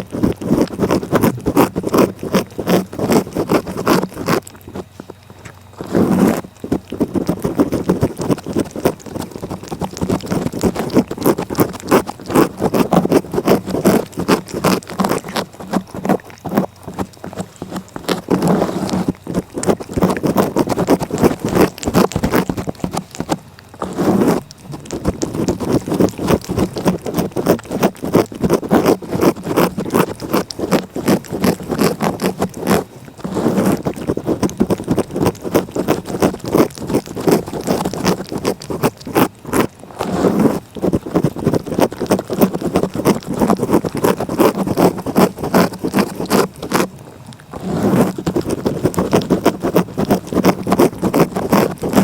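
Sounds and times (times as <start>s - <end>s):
cat tongue licking: 0.0s - 52.0s.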